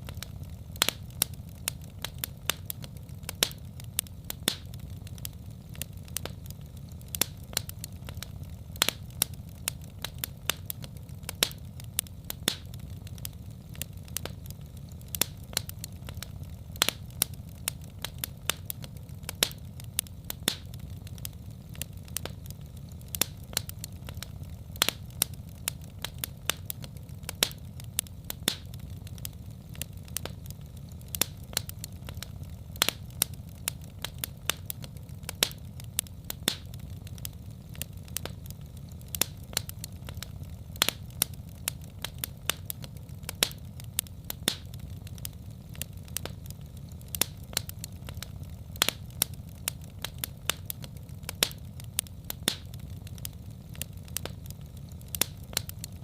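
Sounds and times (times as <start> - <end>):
fire crackling pops and snaps: 0.0 - 56.0
low fire rumble: 0.0 - 56.0.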